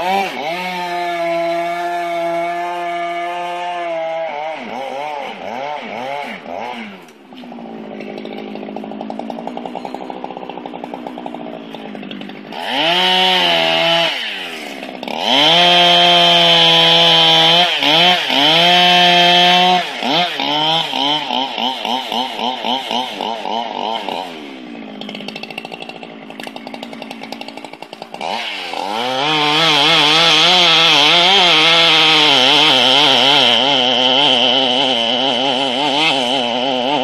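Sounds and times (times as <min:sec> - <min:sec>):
chainsaw revving and cutting: 0:00.0 - 0:37.0.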